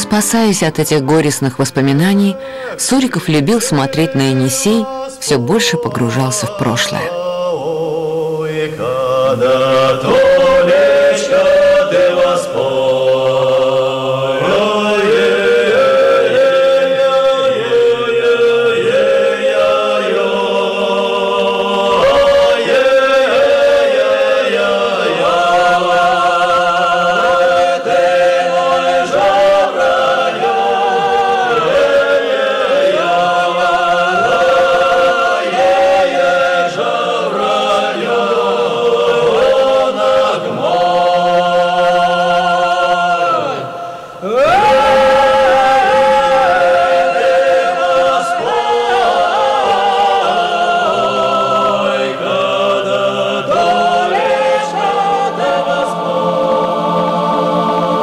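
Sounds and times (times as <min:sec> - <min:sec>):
choir singing slow chant: 0:00.0 - 0:58.0.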